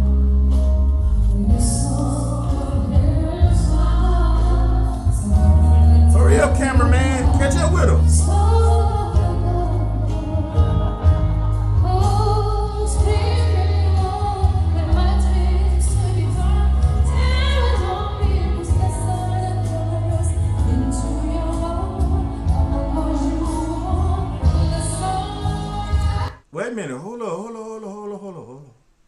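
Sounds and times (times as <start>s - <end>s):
woman singing: 1.3s - 26.4s.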